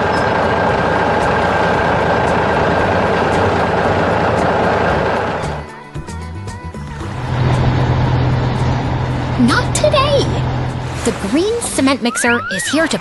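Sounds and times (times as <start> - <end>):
heavy construction vehicle engine: 0.0 - 5.8, 6.8 - 11.8.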